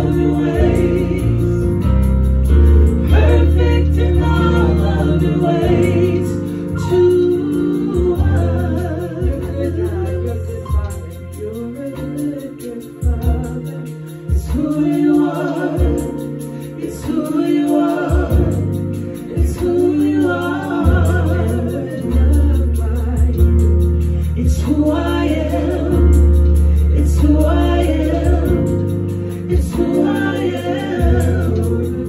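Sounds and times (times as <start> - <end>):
keyboard chords and bass: 0.0 - 32.0.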